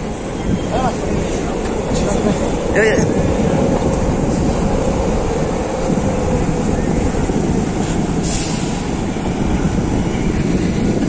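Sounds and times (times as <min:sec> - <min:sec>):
bus engine and tyres: 0:00.0 - 0:11.0
city traffic: 0:00.0 - 0:11.0.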